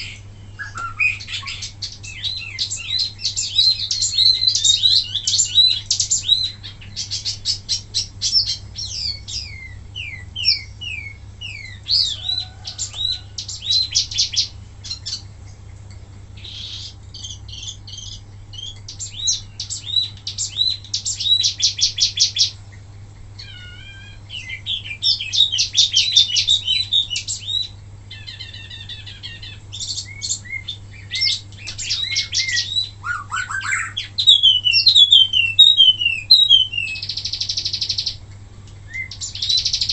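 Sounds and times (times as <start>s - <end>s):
songbird trilling and whistling: 0.0s - 15.3s, 16.4s - 22.6s, 23.4s - 38.2s, 38.9s - 39.9s
steady low hum: 0.0s - 39.9s.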